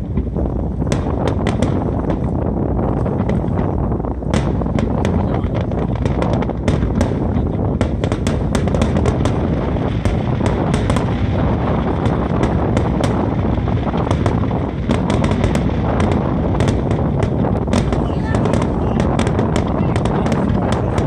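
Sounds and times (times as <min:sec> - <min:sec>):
fireworks cracking: 0:00.0 - 0:21.0
rumble of fireworks booms: 0:00.0 - 0:21.0.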